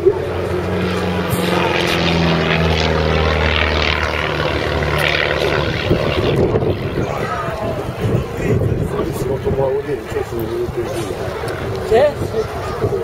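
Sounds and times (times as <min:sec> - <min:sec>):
propeller plane droning overhead: 0:00.0 - 0:13.0.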